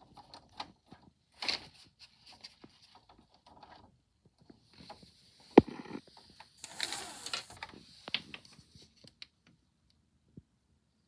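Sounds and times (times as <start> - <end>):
camera rustling and scraping: 0.0 - 9.2.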